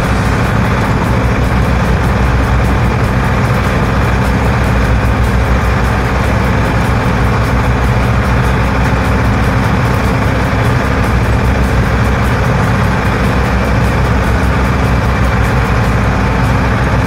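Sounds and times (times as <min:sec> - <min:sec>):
boat engine drone: 0:00.0 - 0:17.0
rush of wind and water: 0:00.0 - 0:17.0.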